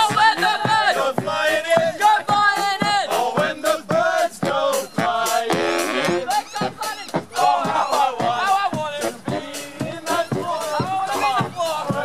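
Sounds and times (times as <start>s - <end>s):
group singing over a beat: 0.0s - 12.0s.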